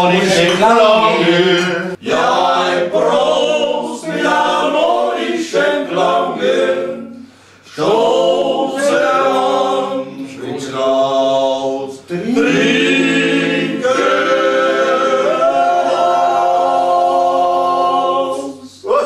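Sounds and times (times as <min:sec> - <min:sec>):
men singing in harmony: 0:00.0 - 0:18.8.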